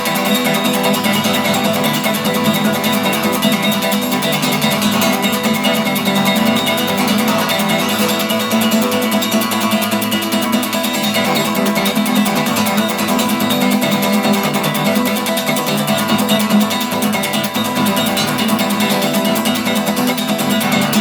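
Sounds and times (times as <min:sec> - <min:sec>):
plucked string instrument music: 0:00.0 - 0:21.0.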